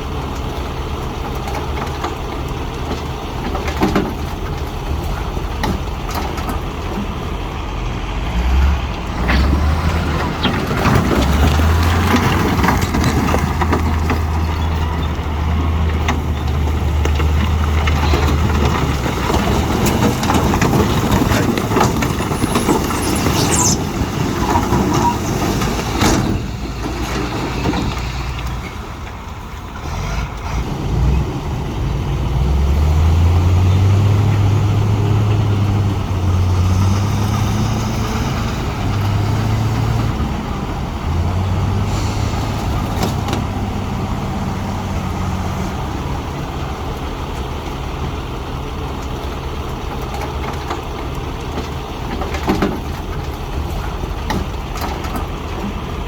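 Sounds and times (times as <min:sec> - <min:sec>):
diesel engine under load: 0:00.0 - 0:56.0
loud rumbling clatter: 0:00.0 - 0:56.0.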